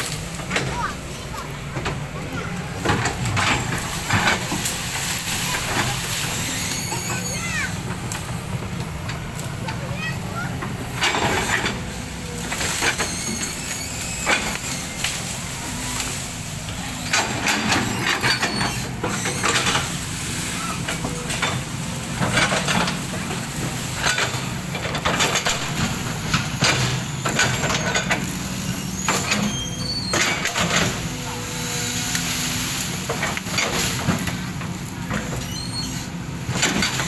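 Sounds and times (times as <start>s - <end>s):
heavy machine engine under load: 0.0s - 37.0s.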